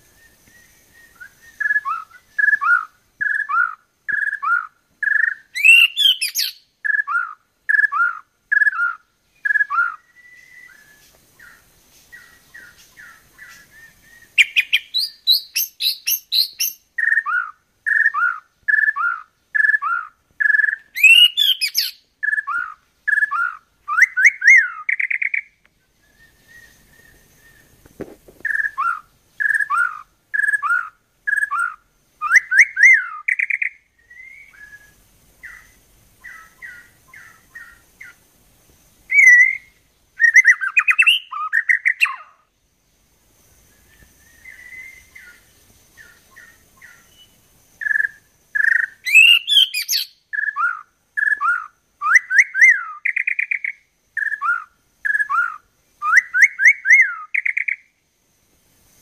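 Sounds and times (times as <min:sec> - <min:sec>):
bird whistling and twittering: 0:00.0 - 0:27.8, 0:28.4 - 0:38.2, 0:39.1 - 0:42.5, 0:43.7 - 0:57.9.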